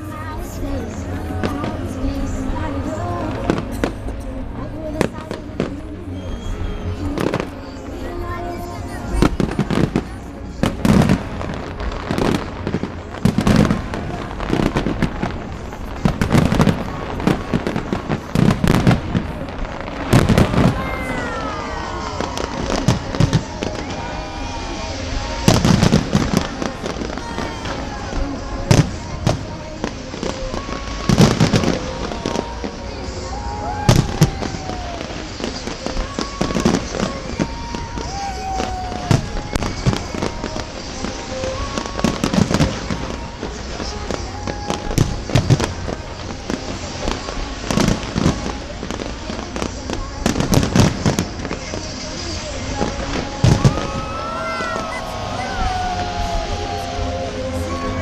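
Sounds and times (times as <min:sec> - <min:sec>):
falling firework tones: 0:00.0 - 0:58.0
fireworks booming and crackling: 0:00.0 - 0:58.0.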